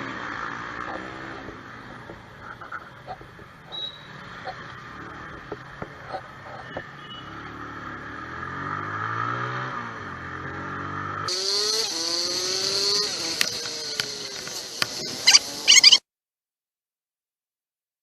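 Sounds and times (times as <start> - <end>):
vehicle engine accelerating: 0.0 - 15.9.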